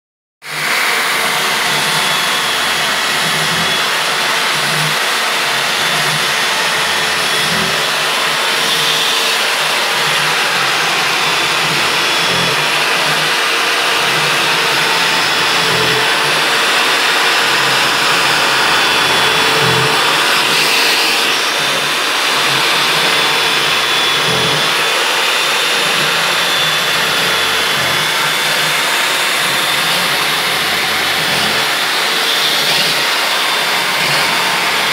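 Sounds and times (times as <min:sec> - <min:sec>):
electric drill whining: 0:00.5 - 0:34.9.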